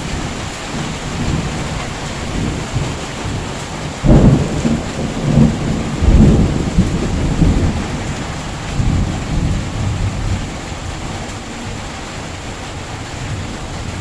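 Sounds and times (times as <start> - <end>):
deep thunder rumbles: 0.0 - 14.0
heavy rain falling: 0.0 - 14.0.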